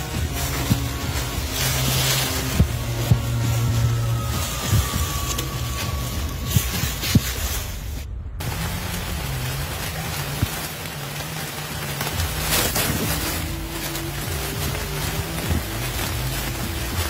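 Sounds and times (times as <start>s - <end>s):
background music low held notes: 0.0s - 17.0s
steady hiss: 0.0s - 17.0s.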